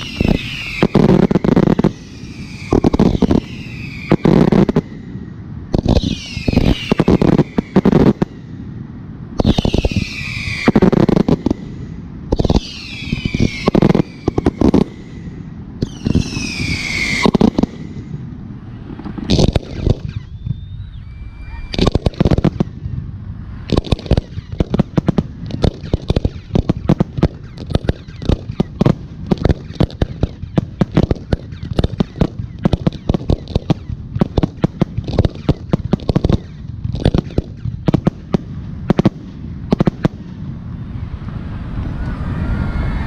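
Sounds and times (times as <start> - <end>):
fireworks bursting with sharp booms: 0.0 - 20.9, 21.6 - 40.6.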